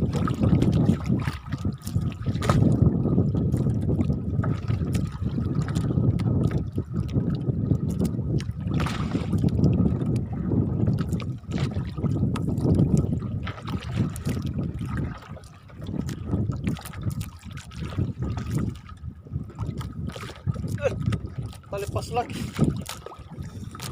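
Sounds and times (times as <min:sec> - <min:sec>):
water lapping against boat hull: 0:00.0 - 0:23.9.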